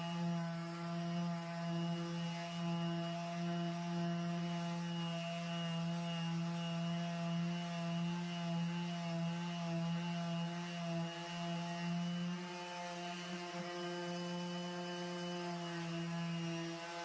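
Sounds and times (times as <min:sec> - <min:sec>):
electric sander humming: 0:00.0 - 0:17.0.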